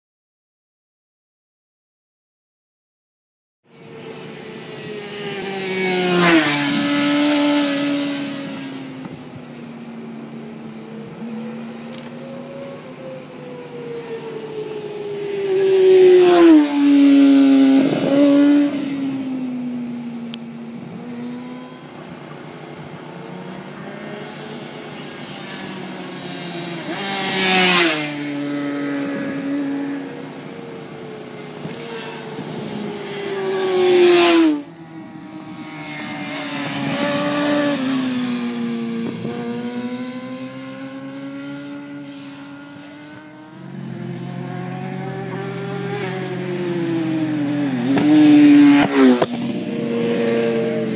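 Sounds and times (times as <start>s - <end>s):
motorcycle engine revving past: 3.8s - 50.9s.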